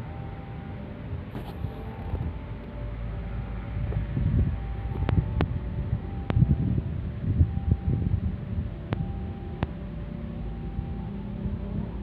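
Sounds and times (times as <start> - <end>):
wind buffeting microphone: 1.1 - 12.0.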